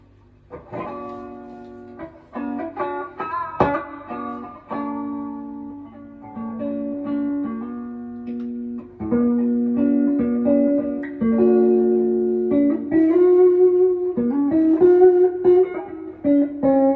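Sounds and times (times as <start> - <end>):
electric guitar playing: 0.0 - 16.9.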